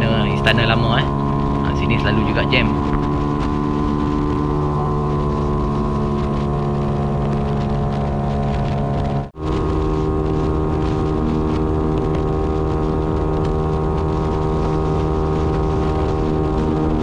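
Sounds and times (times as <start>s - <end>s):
motorcycle engine cruising: 0.0s - 17.0s
wind noise on microphone: 0.0s - 17.0s.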